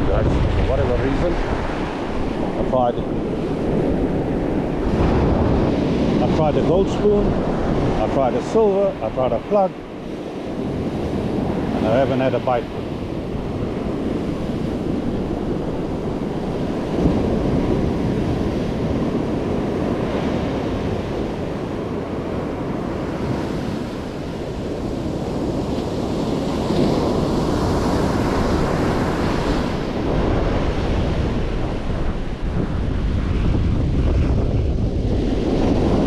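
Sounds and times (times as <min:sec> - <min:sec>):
surf breaking on sand: 0:00.0 - 0:36.0
wind buffeting microphone: 0:00.0 - 0:36.0.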